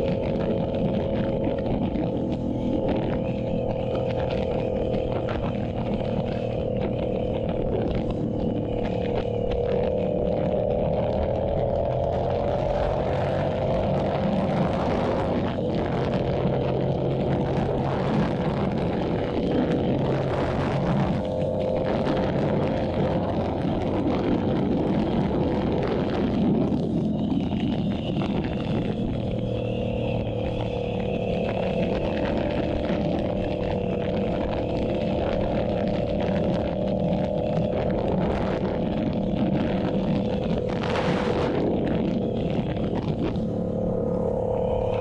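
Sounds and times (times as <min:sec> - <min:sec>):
motorcycle engine cruising: 0:00.0 - 0:45.0
wind rushing past: 0:00.0 - 0:45.0.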